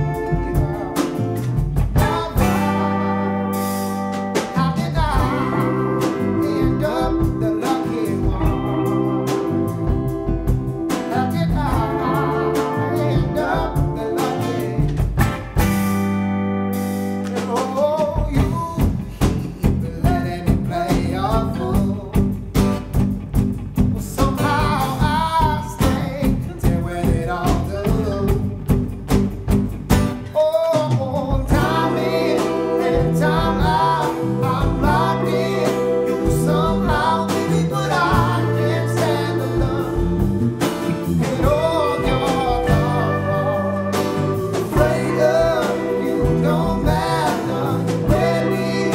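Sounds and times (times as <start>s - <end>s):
drumbeat: 0.0s - 3.0s, 3.6s - 16.2s, 17.2s - 48.9s
person singing: 0.0s - 15.2s, 17.3s - 22.2s, 24.0s - 28.6s, 30.3s - 48.9s
electric bass: 0.0s - 30.4s, 31.0s - 48.9s
acoustic guitar: 0.0s - 48.9s.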